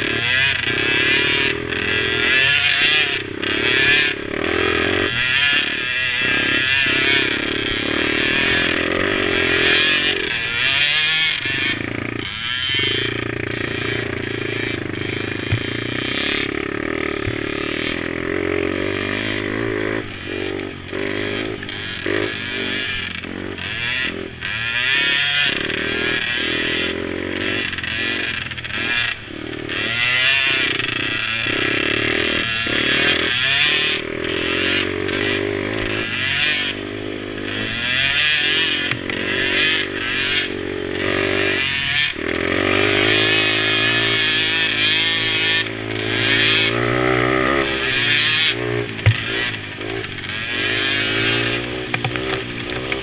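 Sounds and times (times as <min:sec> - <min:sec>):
quad engines revving: 0:00.0 - 0:53.0.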